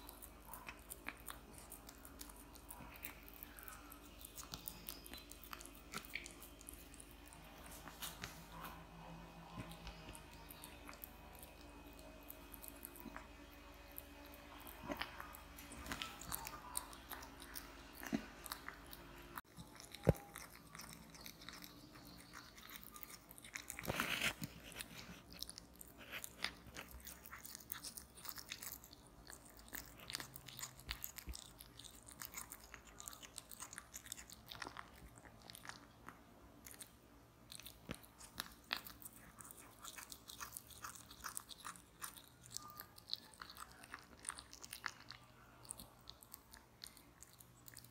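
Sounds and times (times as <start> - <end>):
cat chewing: 0.0 - 47.9.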